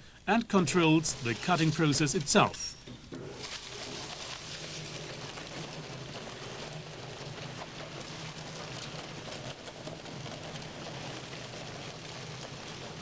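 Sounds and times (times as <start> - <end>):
paper being shredded: 0.7 - 2.6, 3.2 - 13.0.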